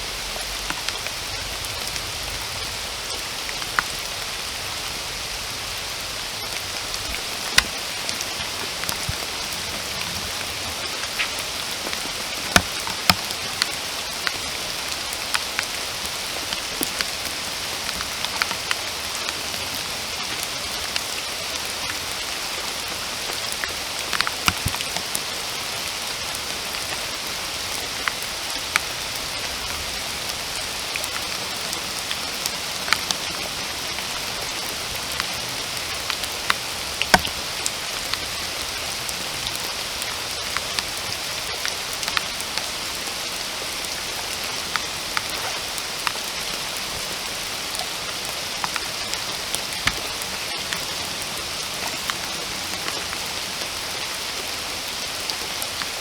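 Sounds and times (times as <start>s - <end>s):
raindrops striking close by: 0.0s - 56.0s
steady rain: 0.0s - 56.0s.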